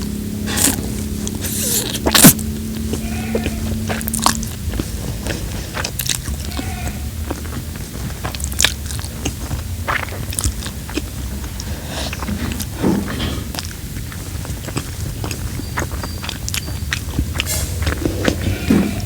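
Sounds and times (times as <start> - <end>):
wet chewing and slurping: 0.0 - 19.0
mouth smacks and clicks: 0.5 - 19.0.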